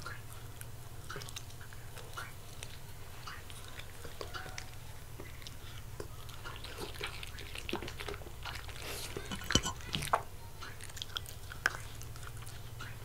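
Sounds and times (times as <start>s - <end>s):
dog chewing wet smacks: 0.0s - 13.0s
sharp snaps of chewing: 0.0s - 13.0s.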